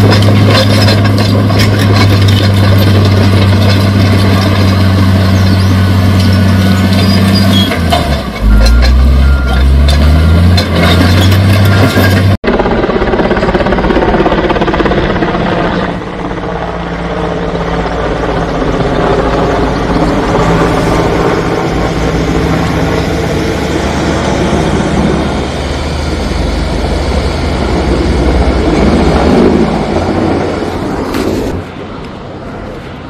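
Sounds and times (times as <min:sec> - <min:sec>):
helicopter rotor and engine: 0:00.0 - 0:07.4, 0:11.2 - 0:33.0.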